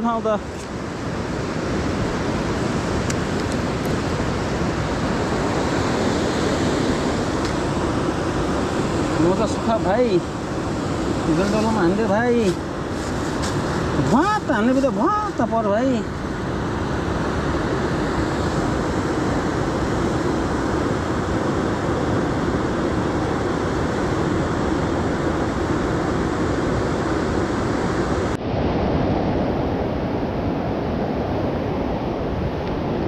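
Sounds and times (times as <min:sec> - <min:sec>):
river rushing over rocks: 0:00.0 - 0:28.4.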